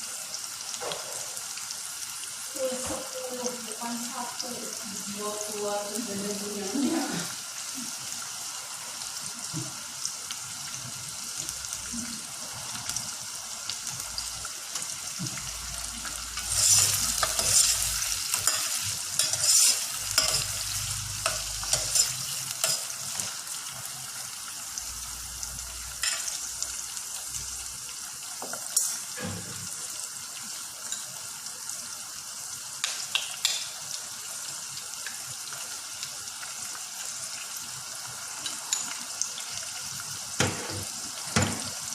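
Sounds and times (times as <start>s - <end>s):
food sizzling in a frying pan: 0.0s - 41.9s.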